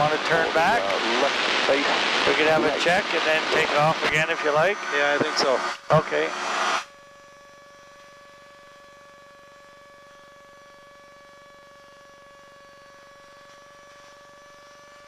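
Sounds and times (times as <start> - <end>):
thin constant whine: 0.0 - 15.0.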